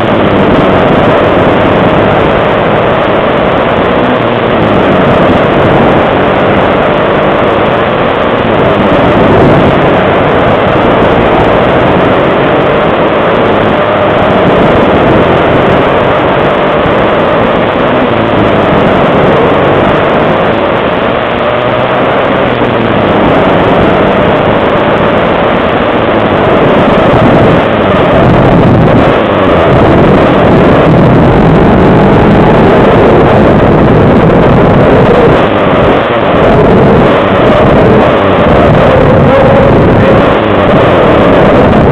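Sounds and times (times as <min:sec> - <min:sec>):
pit bike engines revving: 0:00.0 - 0:41.9
wind buffeting microphone: 0:00.0 - 0:41.9.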